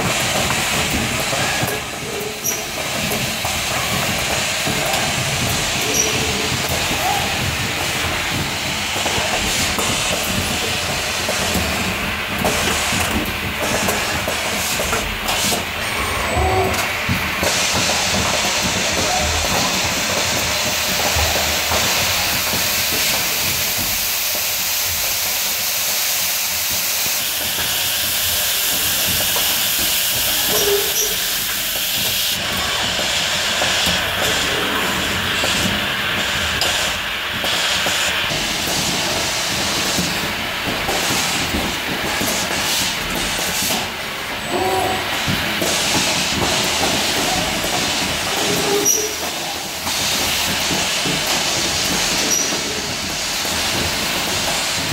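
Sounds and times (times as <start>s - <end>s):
production line machine hiss: 0.0s - 54.9s.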